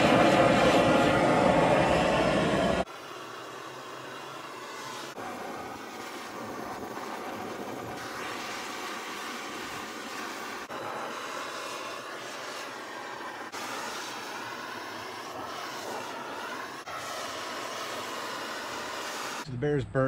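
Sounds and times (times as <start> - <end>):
torch flame hissing: 0.0 - 19.5.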